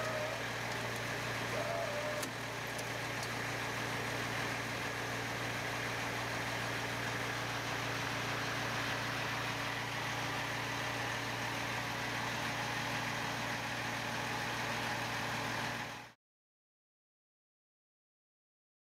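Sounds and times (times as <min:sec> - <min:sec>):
vehicle engine idling: 0:00.0 - 0:16.2.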